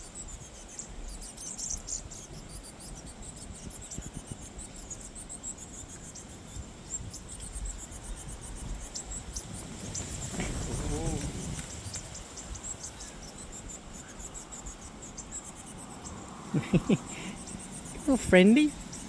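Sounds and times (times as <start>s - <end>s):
small birds chirping: 0.0s - 19.0s
wind rumble on microphone: 0.0s - 19.0s.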